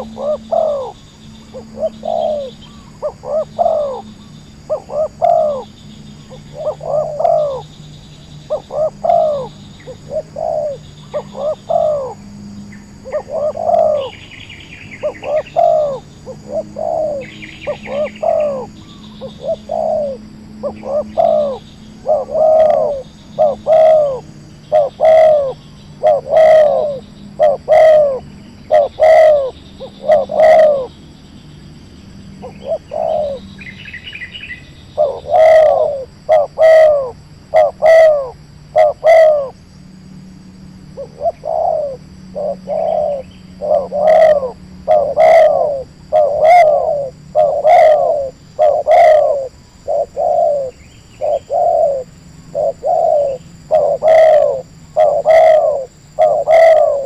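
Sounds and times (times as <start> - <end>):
dove cooing: 0.0 - 31.0, 32.4 - 39.7, 40.8 - 57.0
small bird chirp: 0.0 - 39.6, 41.0 - 57.0.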